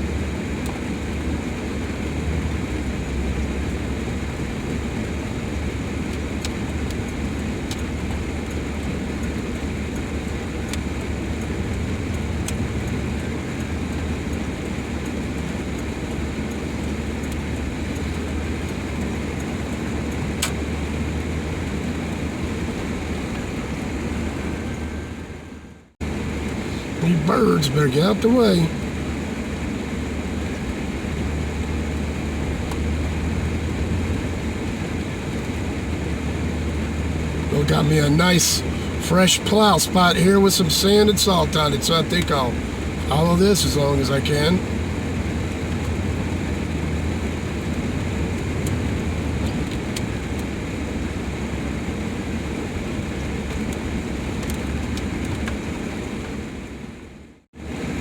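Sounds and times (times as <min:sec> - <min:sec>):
van engine and road drone: 0:00.0 - 0:58.0.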